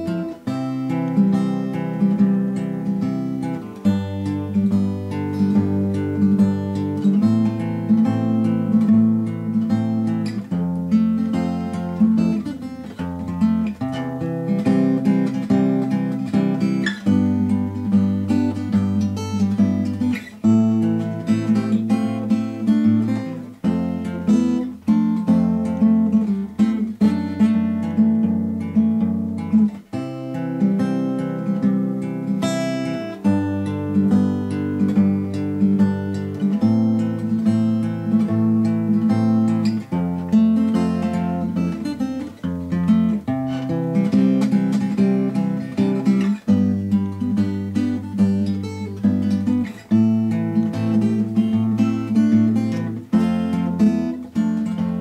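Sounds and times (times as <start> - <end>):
acoustic guitar chords: 0.0 - 55.0.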